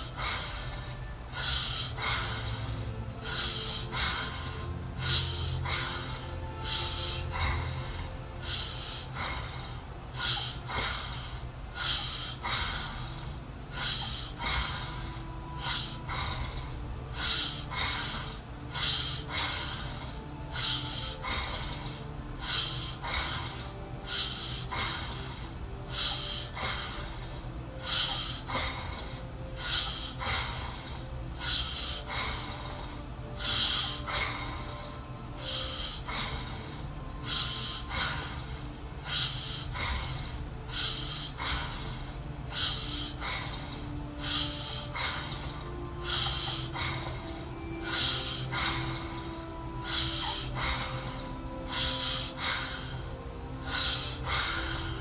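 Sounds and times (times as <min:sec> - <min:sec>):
man snoring: 0:00.0 - 0:55.0.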